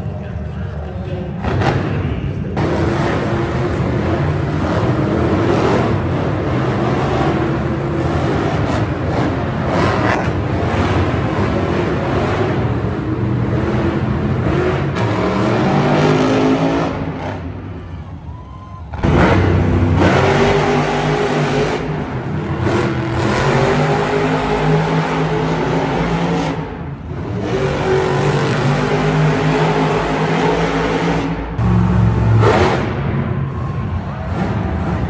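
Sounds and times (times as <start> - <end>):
monster truck engines revving: 0.0 - 35.0.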